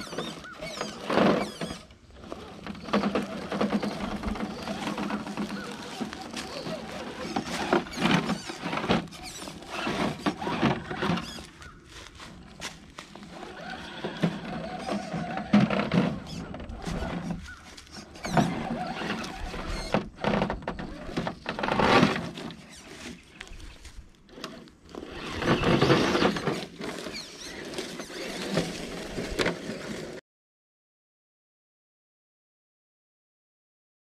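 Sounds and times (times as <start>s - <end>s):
small electric motor whining: 0.0s - 30.1s
dry leaves crunching: 0.0s - 30.2s.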